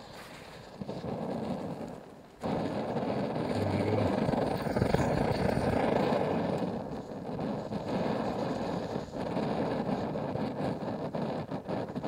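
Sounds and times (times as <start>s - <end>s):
stove burner roaring: 0.0s - 12.0s.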